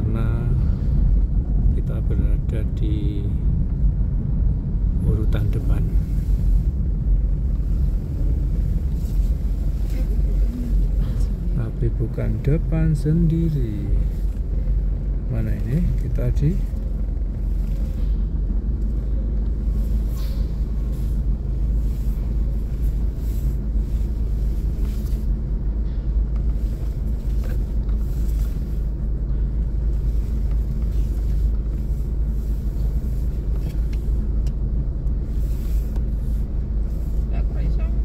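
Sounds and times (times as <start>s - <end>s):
car engine rumble: 0.0s - 38.0s.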